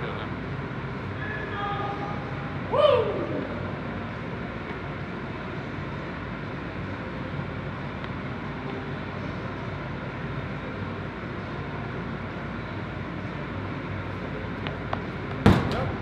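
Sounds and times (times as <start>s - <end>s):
rumbling indoor hall noise: 0.0s - 16.0s.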